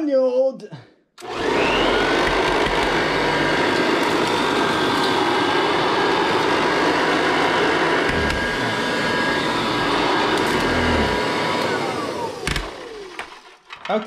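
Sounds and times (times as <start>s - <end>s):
vacuum cleaner running: 1.2s - 13.6s.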